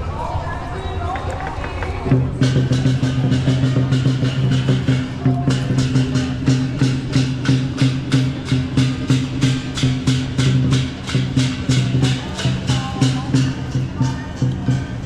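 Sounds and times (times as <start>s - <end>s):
big drum beating: 1.8s - 15.0s
cymbals clashing: 2.3s - 15.0s
gong: 2.4s - 15.0s.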